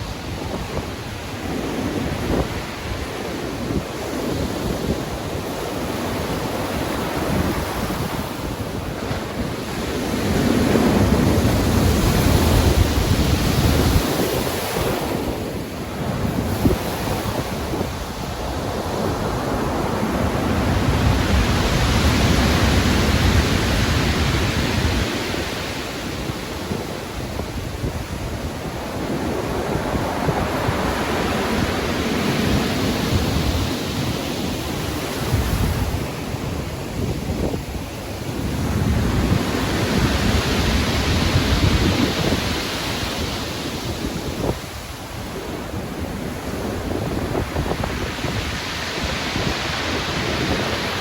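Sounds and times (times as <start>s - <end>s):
ocean waves breaking: 0.0s - 51.0s
wind noise on microphone: 0.0s - 51.0s.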